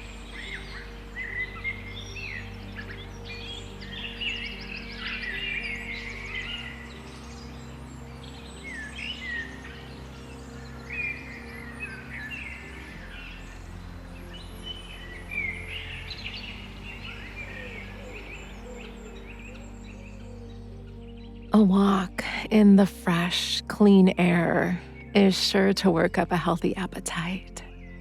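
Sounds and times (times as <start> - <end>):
songbirds chirping and whistling: 0.0 - 22.7
soft ambient music: 0.0 - 28.0.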